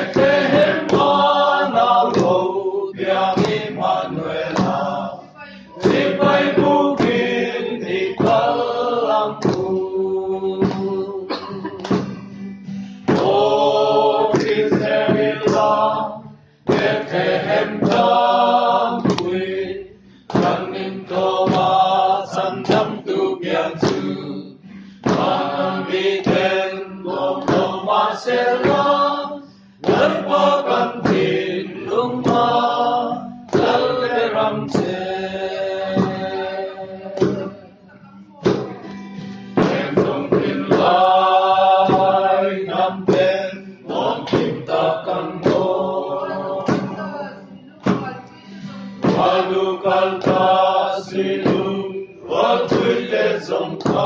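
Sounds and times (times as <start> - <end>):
group of voices singing: 0.0 - 54.0.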